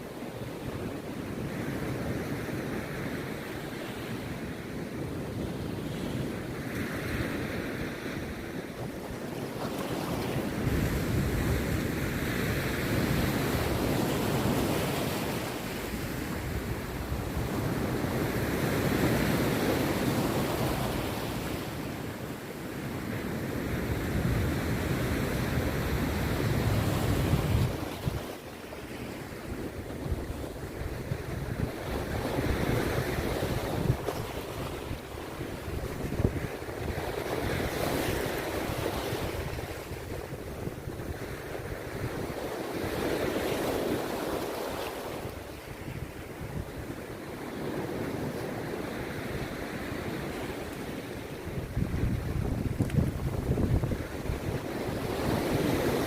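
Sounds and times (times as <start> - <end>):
sea waves breaking: 0.0 - 56.0
wind on microphone: 0.0 - 56.0.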